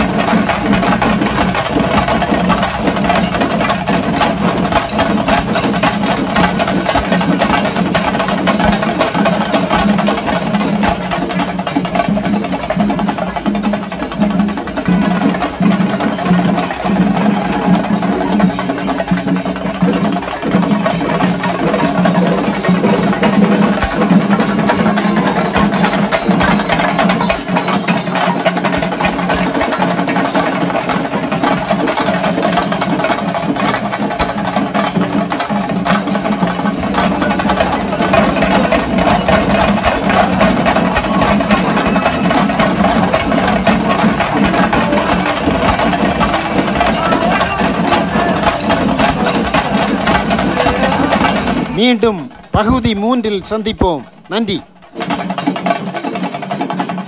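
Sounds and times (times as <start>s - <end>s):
drums beaten with sticks: 0.0s - 57.0s.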